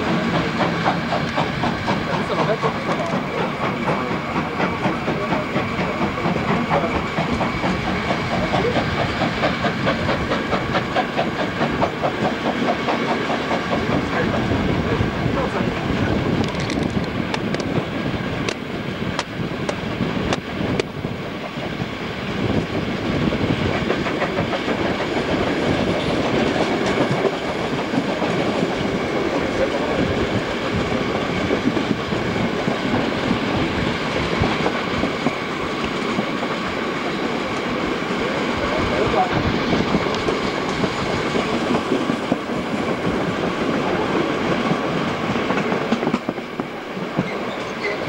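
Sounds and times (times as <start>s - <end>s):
steam locomotive exhaust beat: 0.0s - 48.0s
train wheels clattering over rails: 0.0s - 48.0s.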